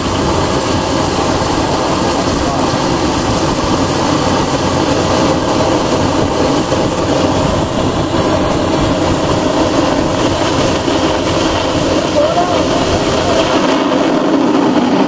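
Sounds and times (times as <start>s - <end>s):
water jet hissing from hydrant: 0.0s - 15.0s.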